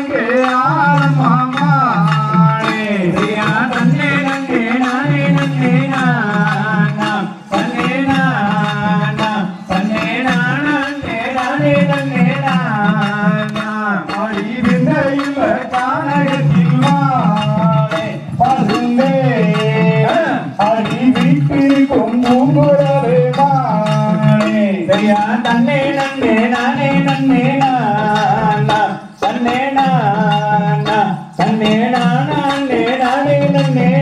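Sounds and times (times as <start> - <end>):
person singing: 0.0 - 34.0
steady drum beat: 0.0 - 34.0.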